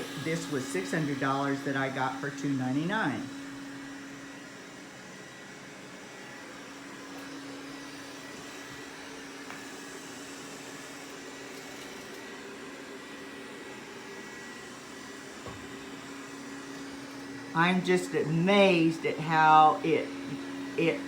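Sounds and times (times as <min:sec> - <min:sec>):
robot vacuum motor humming: 0:00.0 - 0:21.0.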